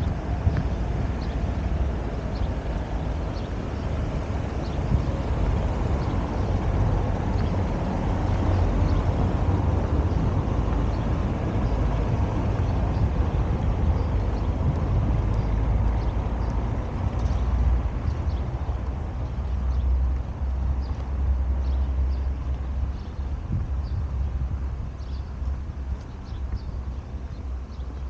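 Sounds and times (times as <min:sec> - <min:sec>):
low rumble of street ambience: 0:00.0 - 0:28.0.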